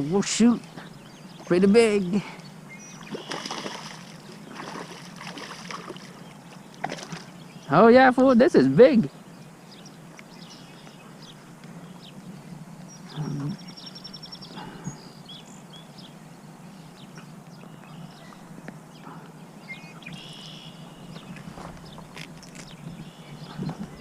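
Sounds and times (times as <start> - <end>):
birds chirping and trilling: 0.0 - 24.0
steady low hum: 0.0 - 24.0.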